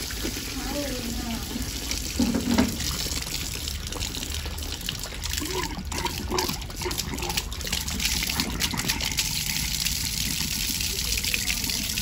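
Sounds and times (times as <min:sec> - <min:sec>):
water gushing from spout: 0:00.0 - 0:12.0.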